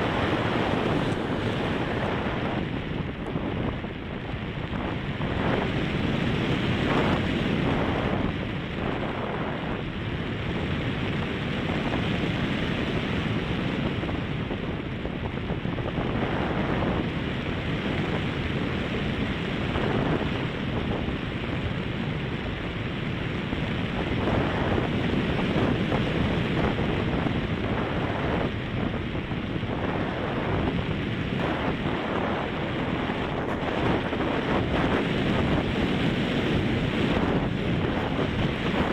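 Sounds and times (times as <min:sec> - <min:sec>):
strong wind buffeting microphone: 0:00.0 - 0:38.9.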